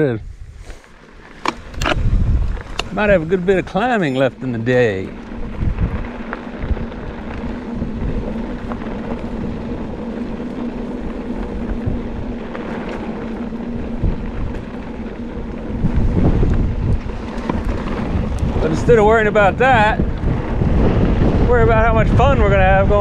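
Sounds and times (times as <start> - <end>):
bike tyres humming on dirt: 0.0 - 23.0
wind on microphone: 0.0 - 23.0
trail rattle and knocks: 0.7 - 23.0.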